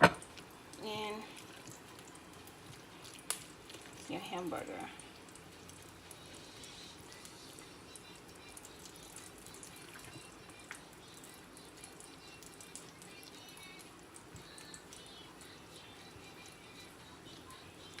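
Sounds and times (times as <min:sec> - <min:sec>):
hot oil sizzling: 0:00.0 - 0:18.0
oil popping and crackling: 0:00.0 - 0:18.0.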